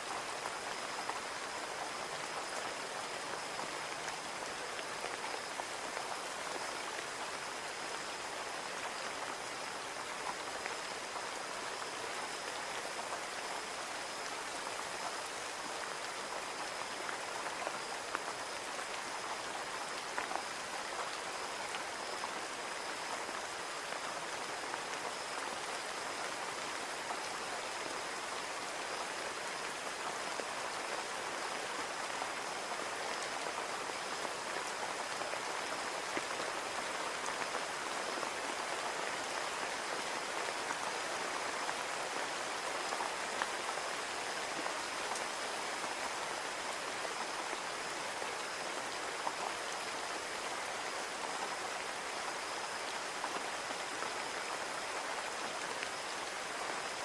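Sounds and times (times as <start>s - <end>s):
rain on a window pane: 0.0s - 57.0s.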